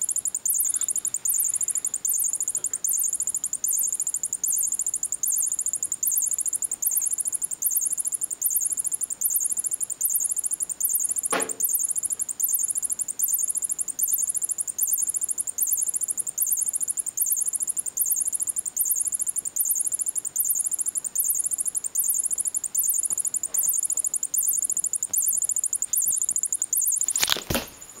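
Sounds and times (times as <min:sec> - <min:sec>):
electronic toy chirping: 0:00.0 - 0:27.4.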